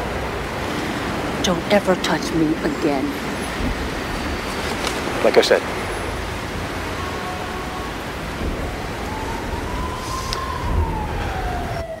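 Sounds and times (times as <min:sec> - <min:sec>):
traffic hiss and rumble: 0:00.0 - 0:12.0.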